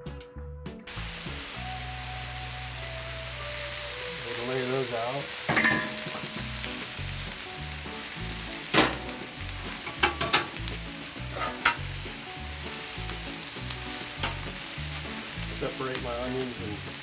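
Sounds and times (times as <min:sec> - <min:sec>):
chicken frying in oil: 0:00.9 - 0:17.0.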